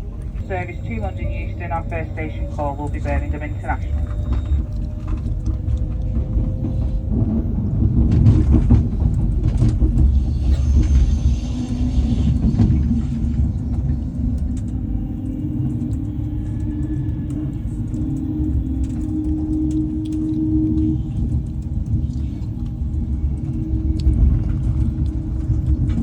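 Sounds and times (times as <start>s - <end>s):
train rumbling inside carriage: 0.0s - 26.0s.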